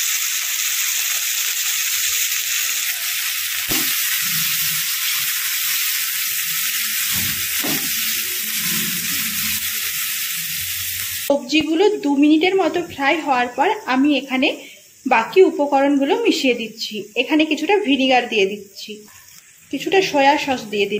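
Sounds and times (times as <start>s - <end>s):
vegetables sizzling in oil: 0.0s - 20.9s.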